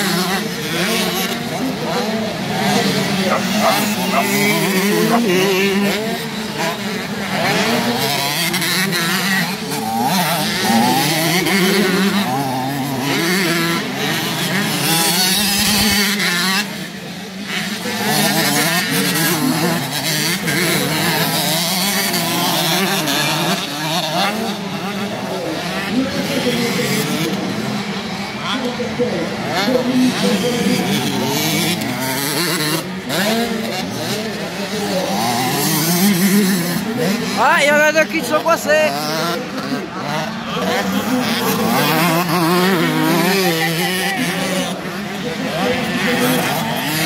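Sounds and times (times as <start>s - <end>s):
motocross bikes revving past: 0.0s - 47.0s.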